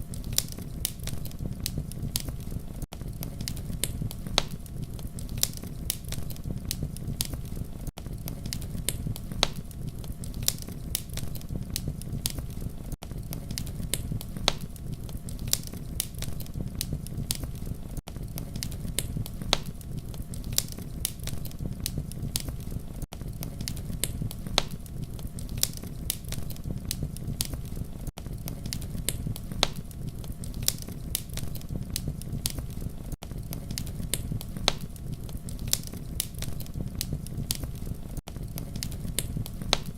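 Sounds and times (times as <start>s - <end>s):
low rumble of flame: 0.0s - 39.9s
wood crackling and popping: 0.0s - 39.9s.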